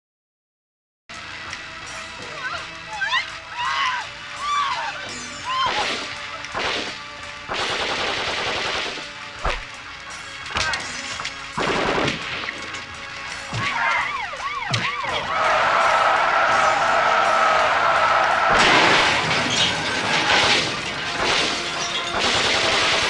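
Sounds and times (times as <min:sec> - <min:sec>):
loud film soundtrack: 0:01.1 - 0:23.0.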